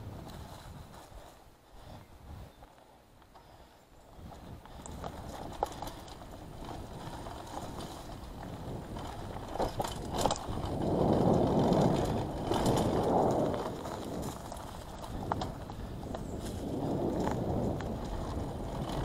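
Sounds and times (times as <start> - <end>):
bike tyres rumbling over dirt: 0.0 - 2.6, 3.3 - 19.0
bike rattling: 0.0 - 19.0.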